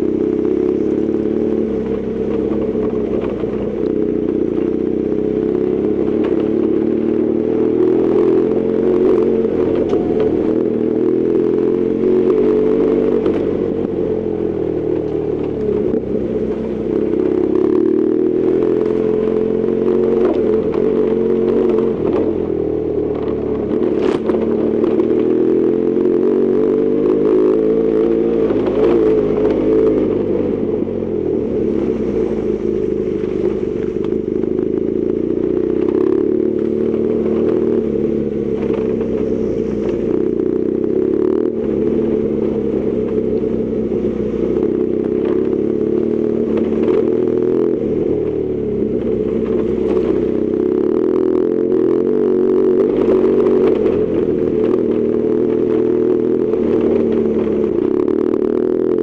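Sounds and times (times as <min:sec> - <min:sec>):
gravel clattering under tyres: 0:00.0 - 0:59.0
motorcycle engine revving: 0:00.0 - 0:59.0.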